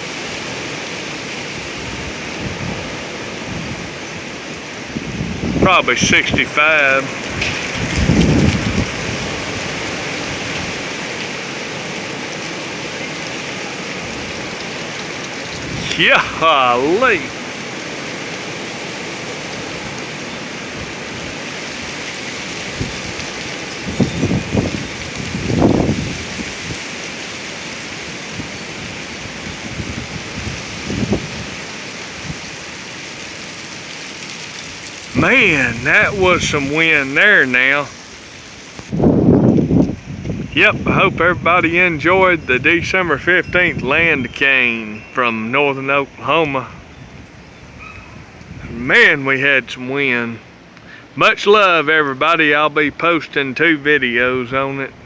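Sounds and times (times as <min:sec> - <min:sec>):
low wind buffeting: 0:00.0 - 0:55.0
strong gusting wind: 0:00.0 - 0:55.0.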